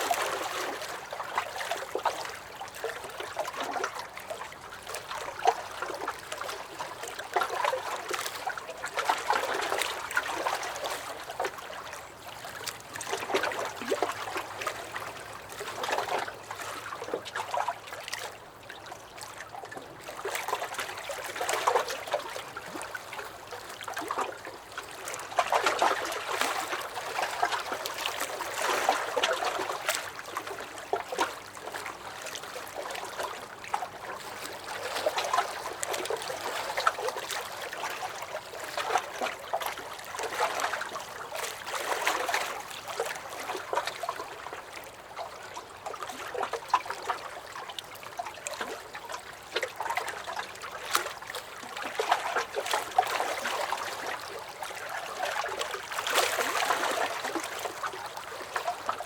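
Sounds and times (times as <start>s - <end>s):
waves lapping against a dock: 0.0s - 59.0s.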